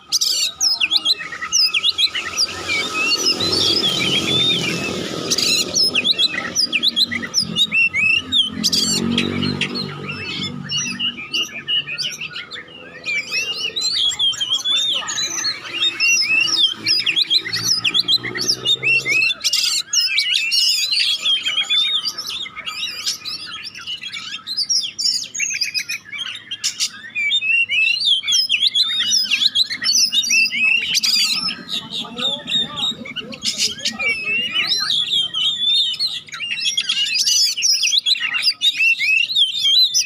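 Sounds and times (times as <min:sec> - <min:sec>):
bird singing chirps and trills: 0:00.0 - 0:40.0.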